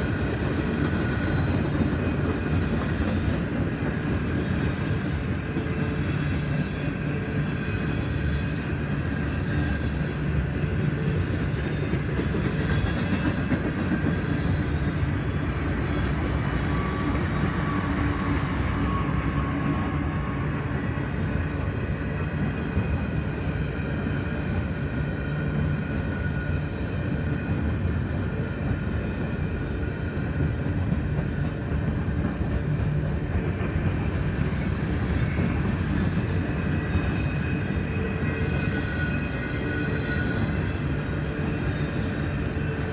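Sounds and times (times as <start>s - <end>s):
diesel locomotive engines droning: 0.0s - 42.9s
freight cars rumbling on rails: 0.0s - 42.9s.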